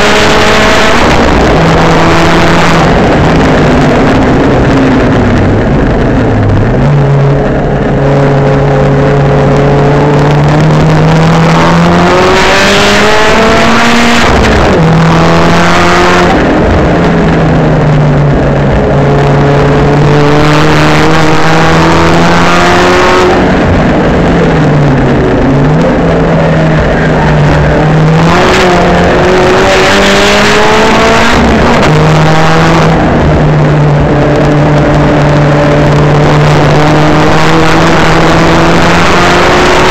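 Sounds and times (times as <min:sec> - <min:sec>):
race car engine revving through gears: 0:00.0 - 0:39.9.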